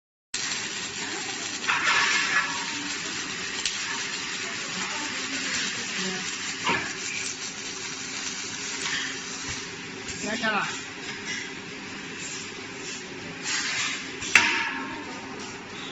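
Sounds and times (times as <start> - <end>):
welding machine sizzling hiss: 0.4 - 15.9.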